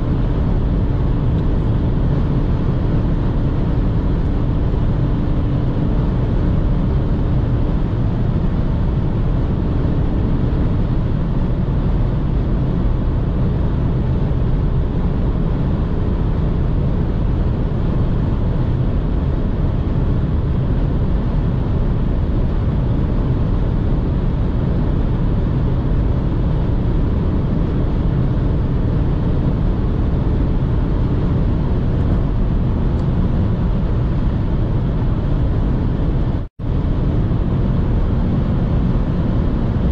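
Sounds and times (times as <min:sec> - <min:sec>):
car engine at high revs: 0:00.0 - 0:39.9
wind and tyre rush: 0:00.0 - 0:39.9.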